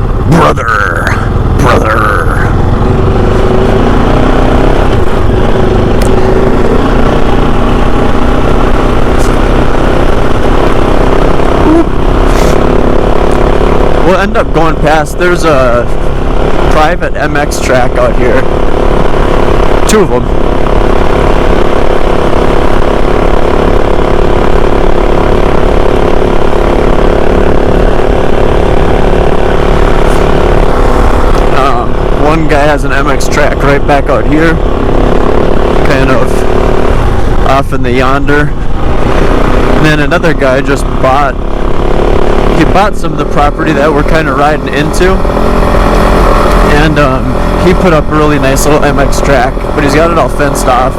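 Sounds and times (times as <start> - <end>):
low wind noise: 0.0 - 50.9
motorcycle engine running: 0.0 - 50.9.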